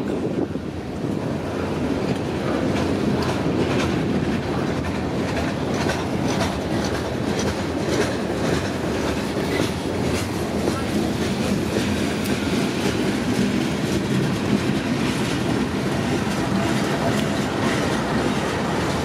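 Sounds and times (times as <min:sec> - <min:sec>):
wheels clicking over rail joints: 0:00.0 - 0:19.0.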